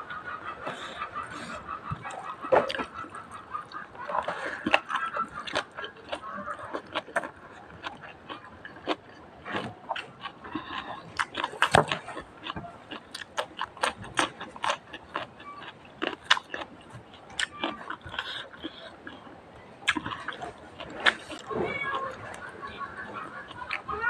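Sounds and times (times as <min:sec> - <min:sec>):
person chewing crunchy food: 0:00.6 - 0:24.0.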